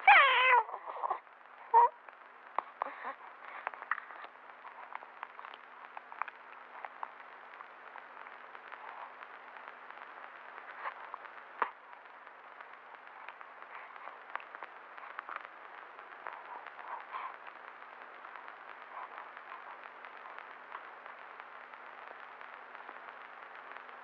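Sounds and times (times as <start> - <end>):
faint newborn sounds: 0.0 - 23.9
old film soundtrack hiss and crackle: 0.0 - 24.0.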